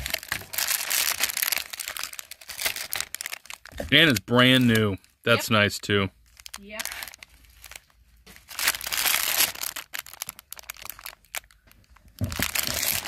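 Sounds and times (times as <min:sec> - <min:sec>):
plastic bags crinkling: 0:00.0 - 0:05.4, 0:06.2 - 0:13.0.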